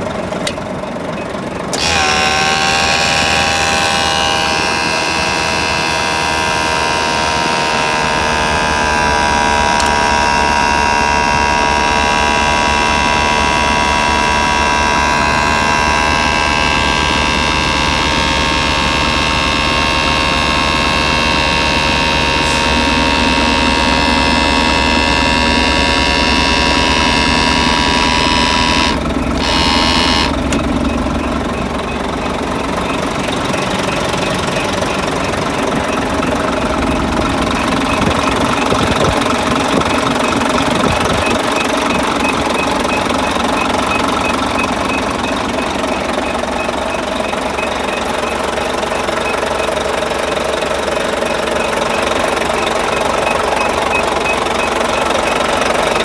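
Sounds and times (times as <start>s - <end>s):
diesel truck engine idling: 0.0s - 56.0s
hum with high whining tones: 0.0s - 56.0s.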